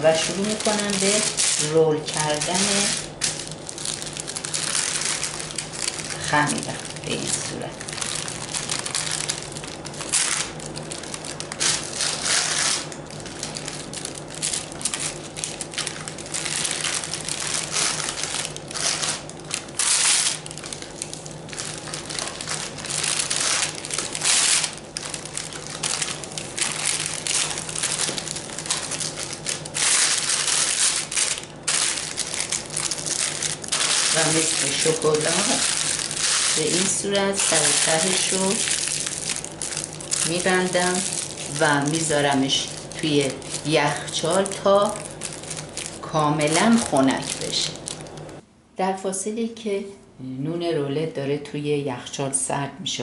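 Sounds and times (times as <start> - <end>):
wax paper crinkling: 0.0 - 48.4.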